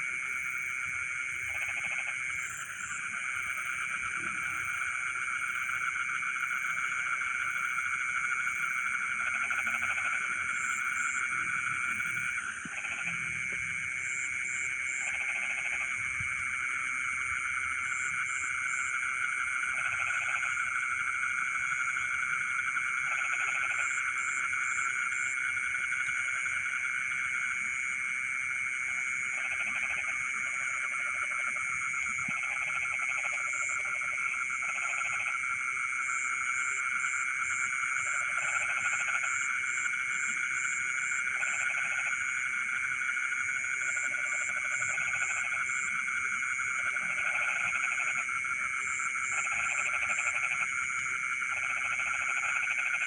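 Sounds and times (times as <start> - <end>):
chorus of frogs calling: 0.0 - 53.0
low frog croaks: 0.0 - 53.0.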